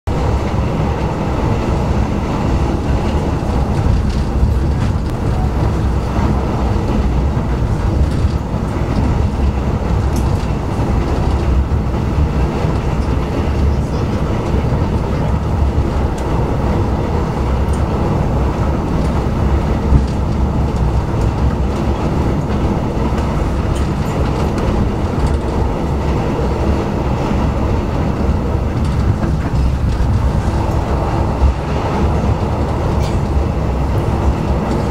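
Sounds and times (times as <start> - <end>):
train rumbling along track: 0.1 - 34.9
wheels clicking over rails: 0.2 - 34.9.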